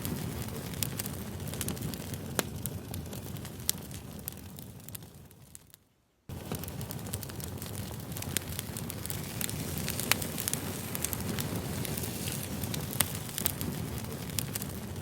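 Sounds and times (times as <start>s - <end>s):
campfire crackling and popping: 0.0s - 15.0s
low rush of flames: 0.0s - 15.0s.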